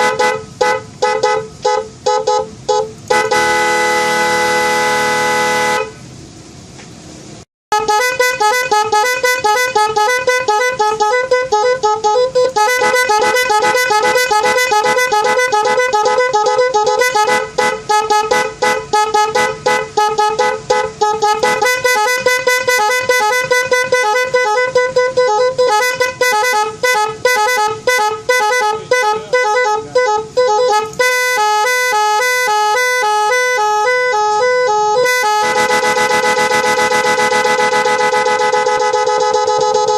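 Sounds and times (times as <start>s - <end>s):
electric horn honking melody: 0.0s - 6.0s, 7.7s - 39.9s.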